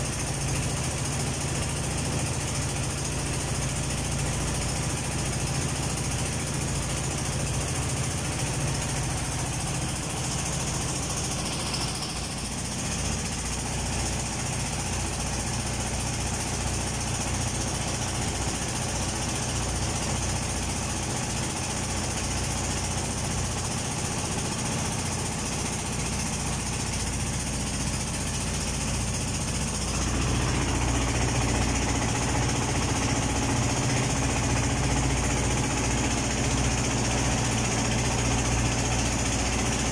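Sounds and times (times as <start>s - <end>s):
diesel boat engine knocking: 0.0s - 39.9s.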